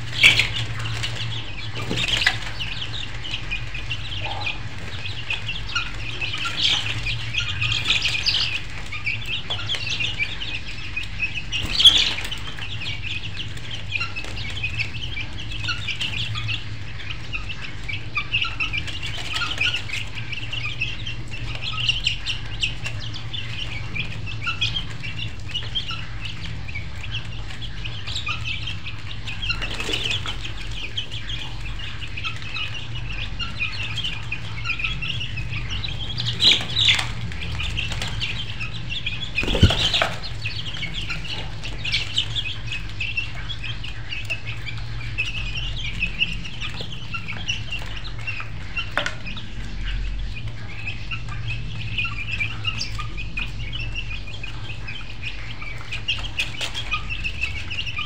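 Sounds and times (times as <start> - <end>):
chickens chirping and clucking: 0.0 - 58.0.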